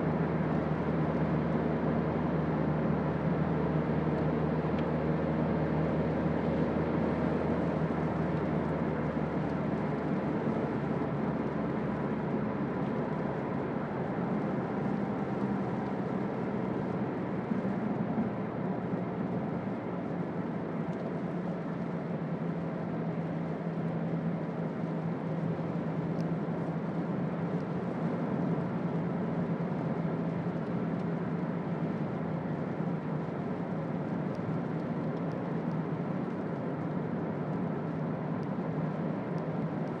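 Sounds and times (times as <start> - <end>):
diesel engine drone while driving: 0.0 - 40.0
road noise: 0.0 - 40.0.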